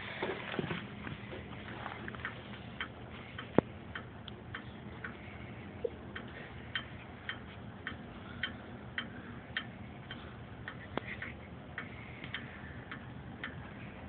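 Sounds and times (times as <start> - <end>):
clock ticking: 2.2 - 13.9.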